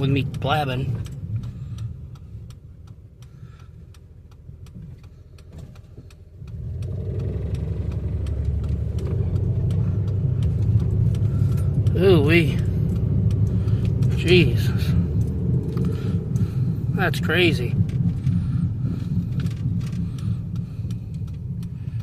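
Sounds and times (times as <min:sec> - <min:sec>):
car engine running rough: 0:00.0 - 0:22.0.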